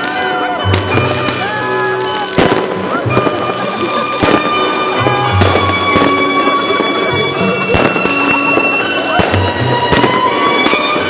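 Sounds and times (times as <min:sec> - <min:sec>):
firework bangs: 0:00.0 - 0:11.0
whistling rockets: 0:00.0 - 0:11.0.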